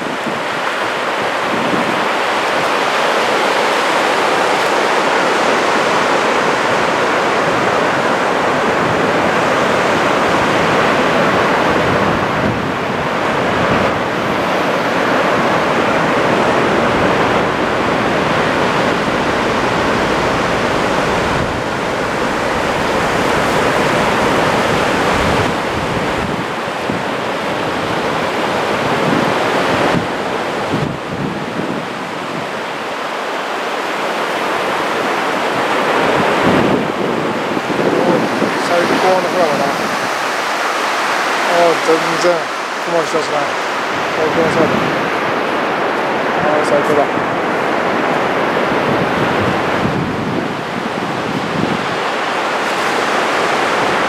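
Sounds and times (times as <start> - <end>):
wind buffeting microphone: 0.0 - 42.4, 43.6 - 54.0
small waves breaking: 0.0 - 54.0.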